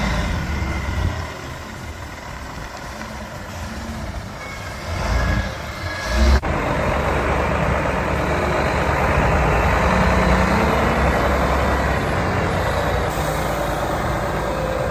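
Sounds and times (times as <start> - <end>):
diesel engine running loudly: 0.0 - 14.9.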